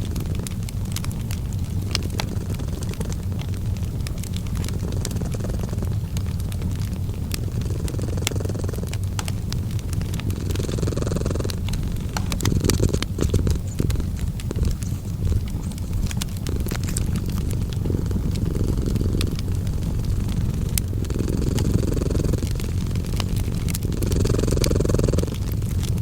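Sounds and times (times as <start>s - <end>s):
cat purring: 0.0s - 26.0s
wood fire crackling and popping: 0.0s - 26.0s.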